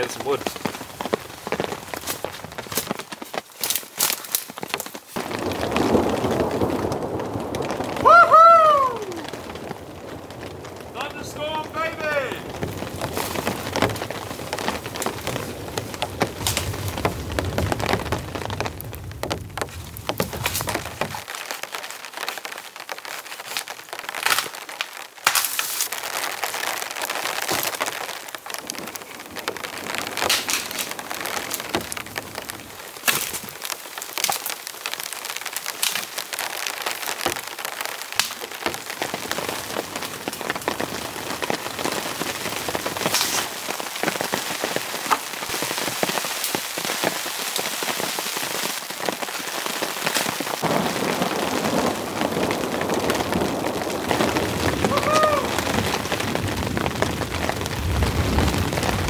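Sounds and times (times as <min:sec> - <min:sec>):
heavy rain hiss: 0:00.0 - 0:02.5, 0:05.1 - 0:24.0, 0:25.8 - 0:59.0
raindrops tapping: 0:00.0 - 0:59.0.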